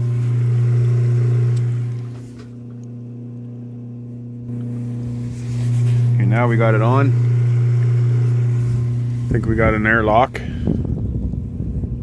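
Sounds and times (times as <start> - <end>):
pump motor humming: 0.0 - 11.0.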